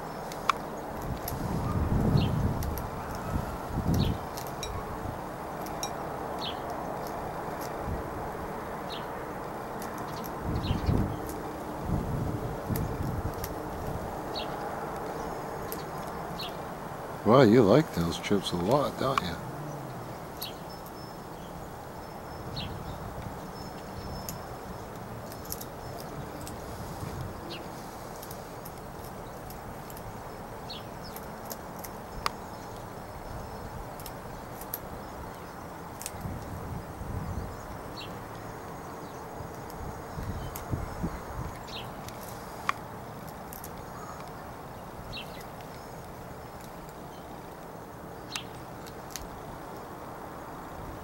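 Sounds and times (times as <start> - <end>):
outdoor background noise: 0.0 - 51.0.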